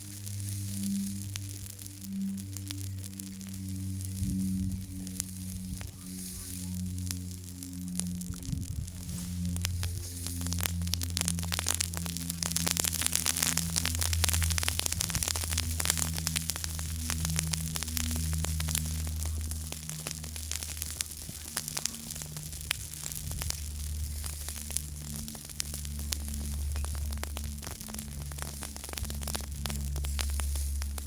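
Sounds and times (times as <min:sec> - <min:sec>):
campfire wood crackling: 0:00.0 - 0:31.0
low hum: 0:00.0 - 0:31.0
steady hiss: 0:00.0 - 0:31.0.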